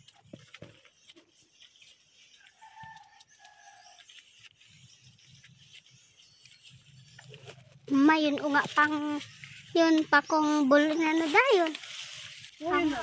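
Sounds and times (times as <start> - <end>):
rustling through ferns: 0.0 - 13.0.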